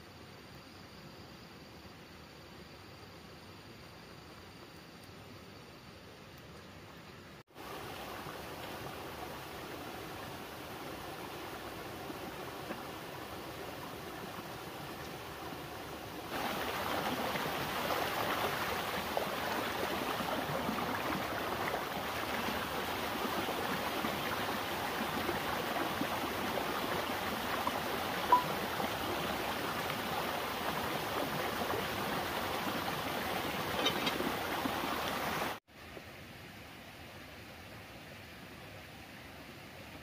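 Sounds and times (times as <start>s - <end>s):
rushing water: 6.4s - 40.0s.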